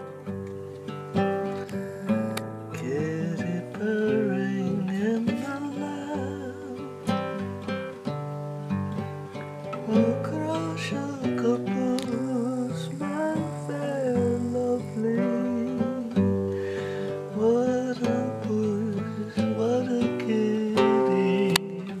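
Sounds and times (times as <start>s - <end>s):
classical guitar strummed and picked: 0.0s - 22.0s
man singing: 1.7s - 7.4s, 9.8s - 22.0s.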